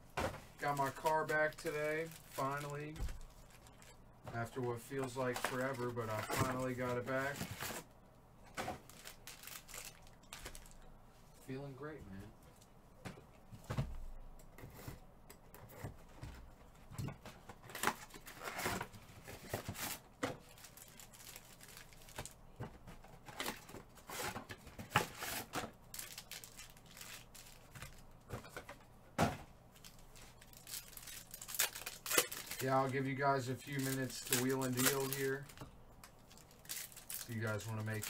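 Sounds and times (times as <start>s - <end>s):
rustling and crinkling: 0.0s - 7.9s, 8.5s - 38.0s.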